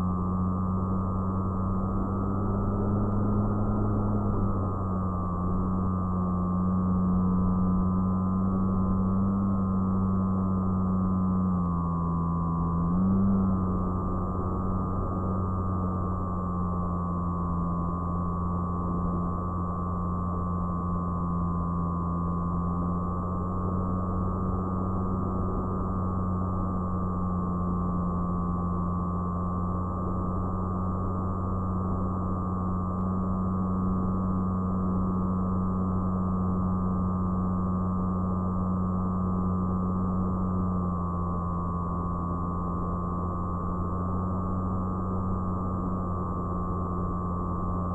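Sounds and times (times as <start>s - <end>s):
propeller motor whine: 0.0s - 47.9s.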